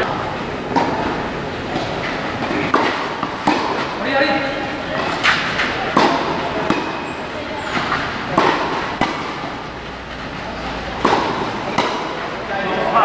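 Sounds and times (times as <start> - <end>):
tennis ball hits: 0.7 - 4.2, 4.9 - 9.9, 10.6 - 13.0.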